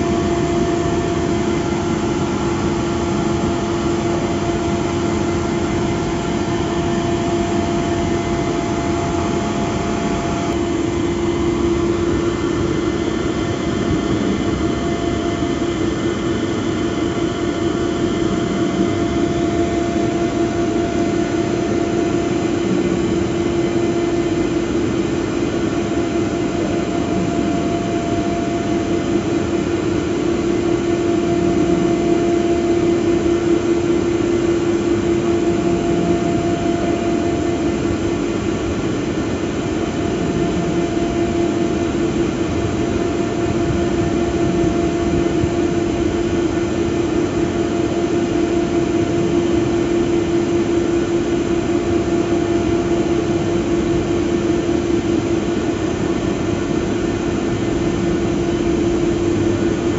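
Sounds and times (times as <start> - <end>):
electric hoist drone: 0.0 - 59.9.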